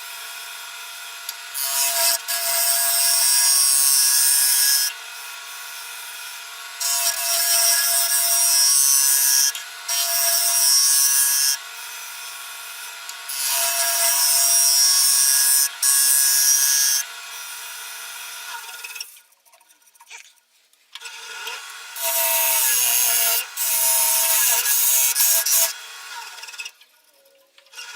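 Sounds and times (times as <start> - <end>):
wood lathe whining: 0.0 - 19.2, 21.0 - 26.8.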